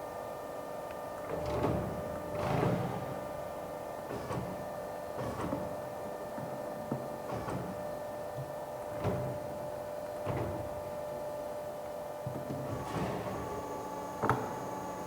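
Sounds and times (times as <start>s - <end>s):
steady motor hum: 1.2s - 15.0s.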